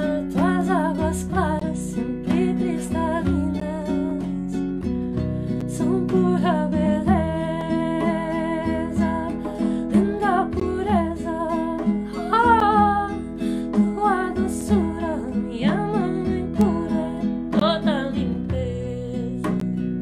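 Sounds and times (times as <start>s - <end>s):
hand drum beat: 0.0s - 20.0s
strummed acoustic guitar: 0.0s - 20.0s
woman singing: 0.0s - 20.0s.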